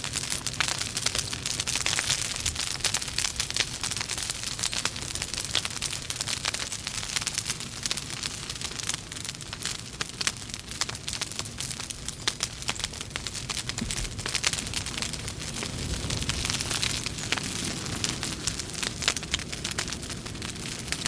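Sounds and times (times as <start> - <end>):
logs crackling and popping: 0.0 - 21.0
low rumble of flame: 0.0 - 21.0.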